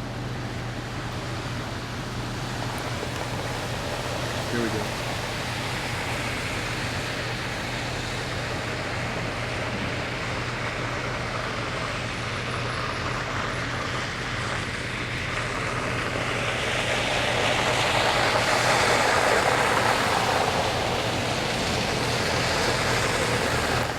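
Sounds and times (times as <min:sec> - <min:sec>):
constant low hum: 0:00.0 - 0:23.9
tyres hissing on wet road: 0:00.0 - 0:23.9.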